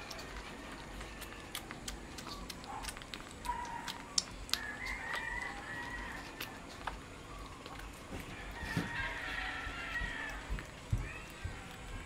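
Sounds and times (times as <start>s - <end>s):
puppy chewing wet meat: 0.0s - 12.0s.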